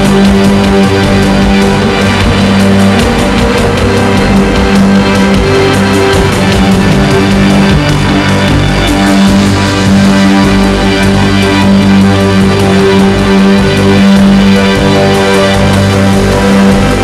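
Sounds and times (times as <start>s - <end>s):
loud rock music: 0.0s - 17.0s.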